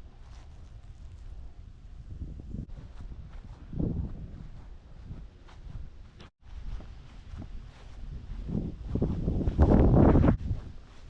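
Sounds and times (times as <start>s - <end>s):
footsteps on trail: 0.0s - 1.5s, 2.7s - 11.0s
wind rumble on microphone: 0.0s - 11.0s.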